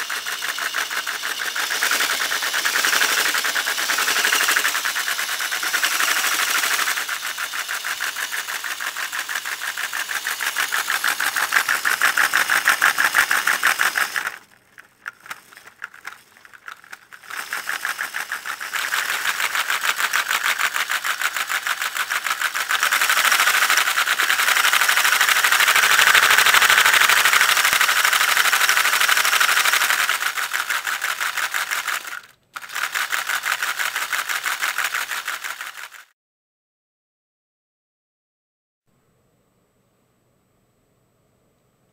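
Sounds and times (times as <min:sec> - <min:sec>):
model engine clattering rattle: 0:00.0 - 0:36.1.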